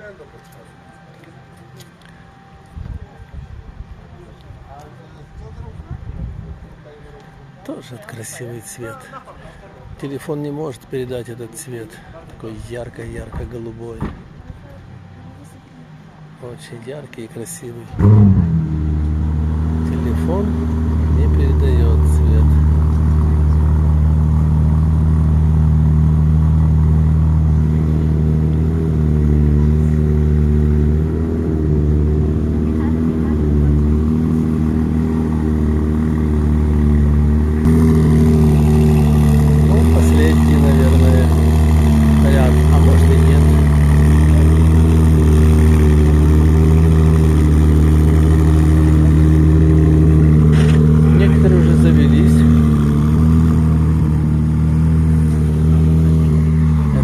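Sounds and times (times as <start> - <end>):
car engine idling: 11.0 - 57.0.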